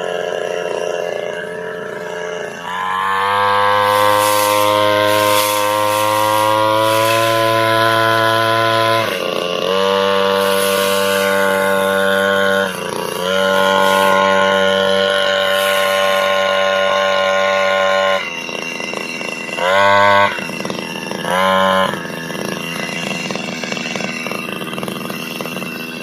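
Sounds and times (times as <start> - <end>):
brush cutter engine revving: 0.0 - 26.0.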